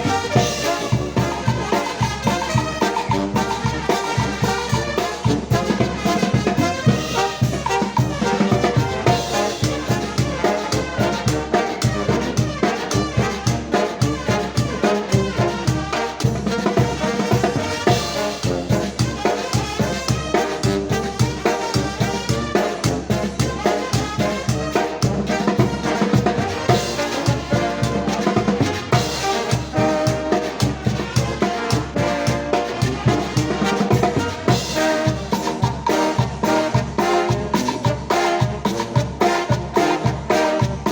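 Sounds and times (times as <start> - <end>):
steady drum beat: 0.0 - 40.9
trumpets and trombones melody: 0.0 - 40.9.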